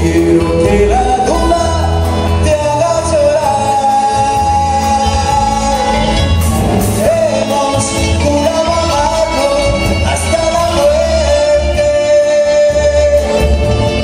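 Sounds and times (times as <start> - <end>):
band with drums: 0.0 - 14.0
man singing into microphone: 0.0 - 14.0.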